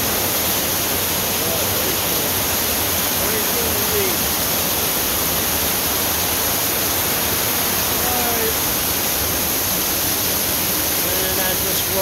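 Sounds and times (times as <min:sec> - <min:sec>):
water cascading down rocky channel: 0:00.0 - 0:12.0.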